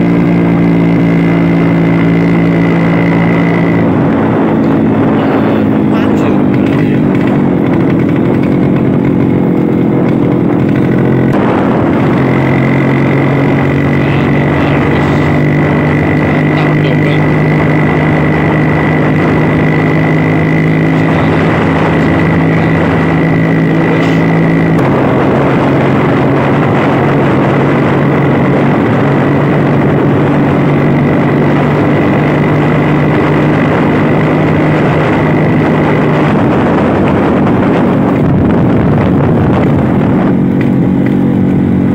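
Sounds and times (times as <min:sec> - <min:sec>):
scooter engine cruising: 0:00.0 - 0:41.9.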